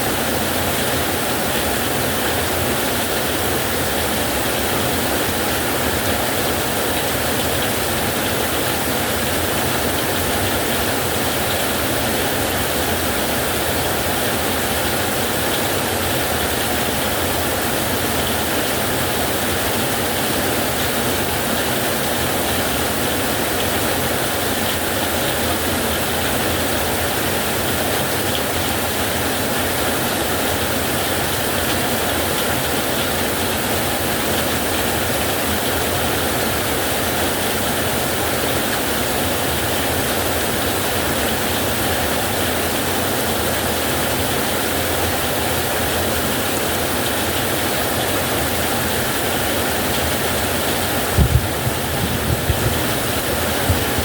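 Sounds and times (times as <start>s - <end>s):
heavy rain on a metal roof: 0.0s - 54.0s.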